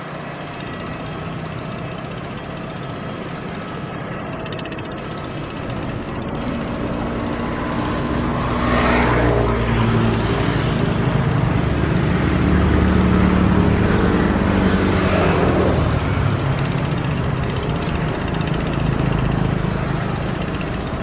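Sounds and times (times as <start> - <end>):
engine hum and rushing: 0.0 - 21.0.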